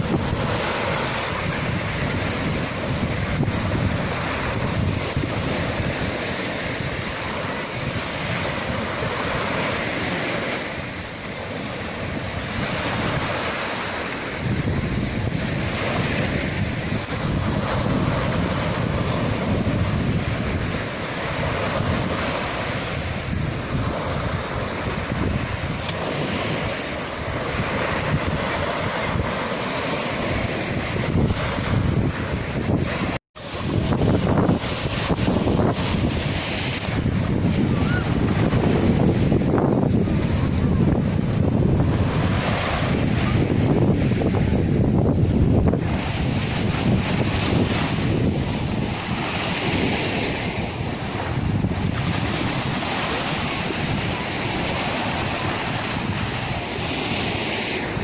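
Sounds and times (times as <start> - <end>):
sea waves surf: 0.0 - 58.0
wind rumbling on microphone: 0.0 - 58.0.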